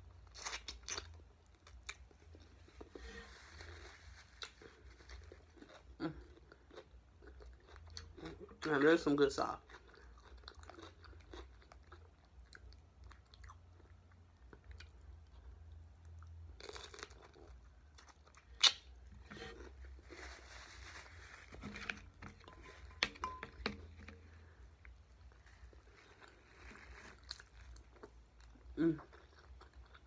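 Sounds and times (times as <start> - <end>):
crunchy cucumber chewing: 0.1 - 8.6, 9.6 - 15.5, 16.2 - 23.1, 23.7 - 30.0.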